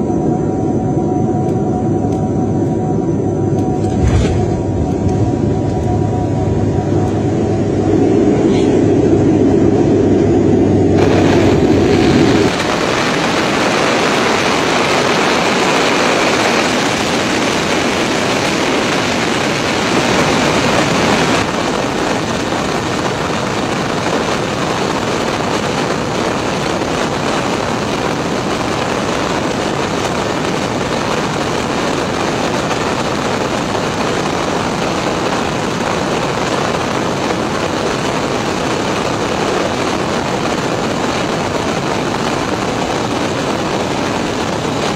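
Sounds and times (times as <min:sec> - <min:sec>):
aircraft airflow and engines rushing: 0:00.0 - 0:44.9.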